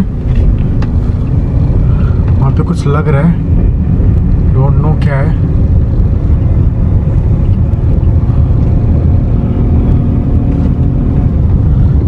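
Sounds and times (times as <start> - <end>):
car engine and tyres rumbling: 0.0 - 12.0
faint engine hum: 0.0 - 12.0.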